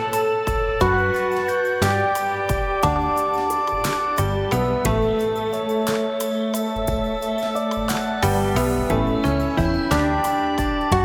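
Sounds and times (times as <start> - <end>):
calm new-age instrumental music: 0.0 - 11.0.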